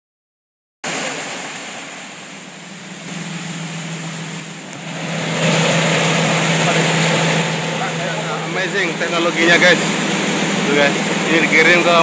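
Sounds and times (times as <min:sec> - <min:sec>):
rushing churning water: 0:00.8 - 0:12.0
turbine generator humming: 0:00.9 - 0:12.0.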